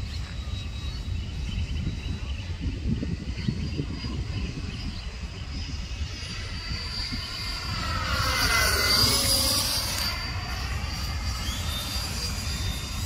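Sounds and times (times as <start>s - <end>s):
jet engine flying past: 0.0s - 13.0s
wind rumble on microphone: 0.0s - 13.0s.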